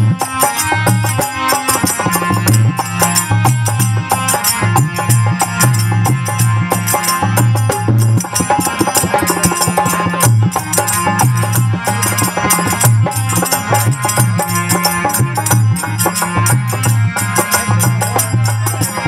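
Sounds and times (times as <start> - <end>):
fast hand-drum beat: 0.0 - 19.0
harmonium melody: 0.0 - 19.0
rapid clicking hand percussion: 0.0 - 19.0.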